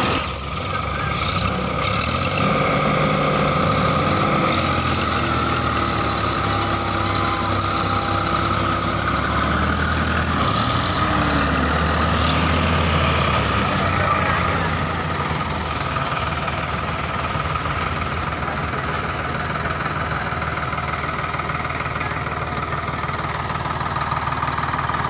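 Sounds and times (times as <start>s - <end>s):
tractor diesel engines running: 0.0s - 25.0s.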